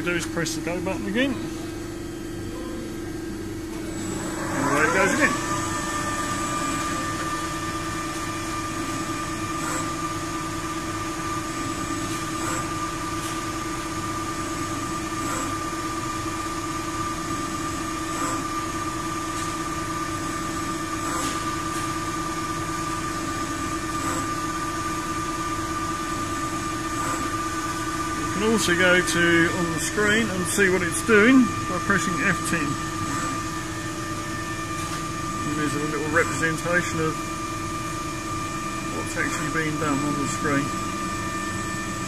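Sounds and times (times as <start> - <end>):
lathe motor hum and whine: 0.0 - 42.0.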